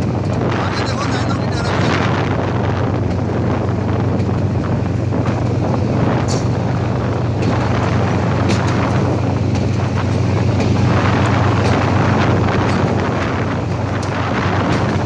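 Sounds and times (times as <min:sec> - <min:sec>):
diesel locomotive humming: 0:00.0 - 0:15.0
wind rushing over microphone: 0:00.0 - 0:15.0.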